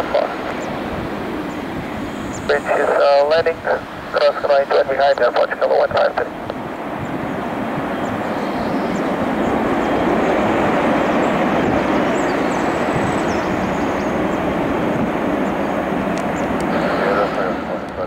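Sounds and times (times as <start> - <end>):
jet engines rushing noise: 0.0 - 18.0.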